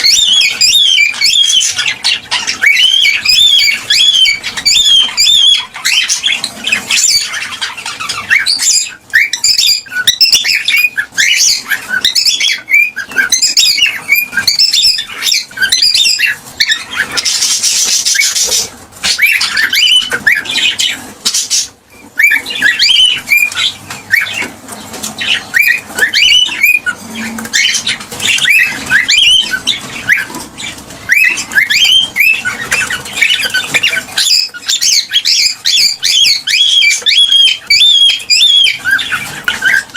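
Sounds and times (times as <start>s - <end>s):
cockatiel chirping and whistling: 0.0s - 39.9s.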